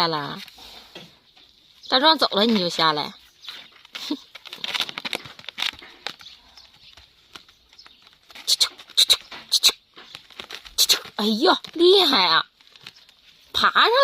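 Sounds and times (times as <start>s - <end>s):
paws pattering and scratching: 0.1s - 13.7s.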